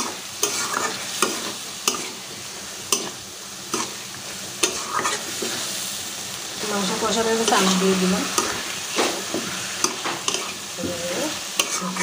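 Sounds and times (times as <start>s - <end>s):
metal spoon scraping a pan: 0.0s - 2.3s, 2.9s - 5.7s, 7.2s - 12.0s
meat sizzling in a pan: 0.0s - 12.0s.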